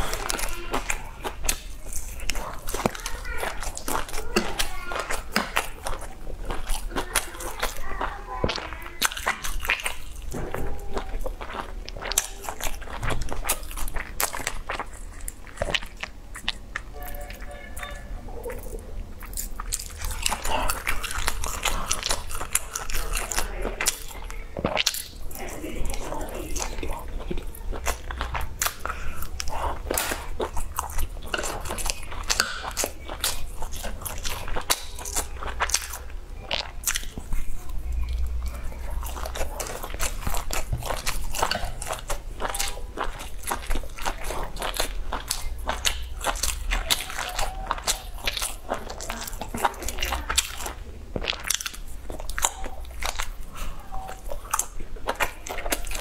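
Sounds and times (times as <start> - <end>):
chewing with wet mouth clicks: 0.0 - 56.0.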